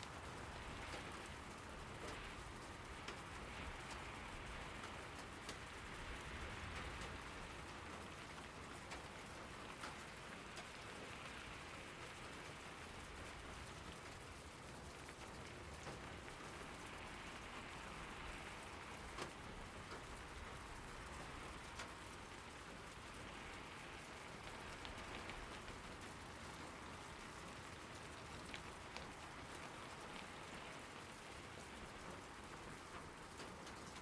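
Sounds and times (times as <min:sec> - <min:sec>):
sharp raindrops ticking: 0:00.0 - 0:34.0
steady rain falling: 0:00.0 - 0:34.0.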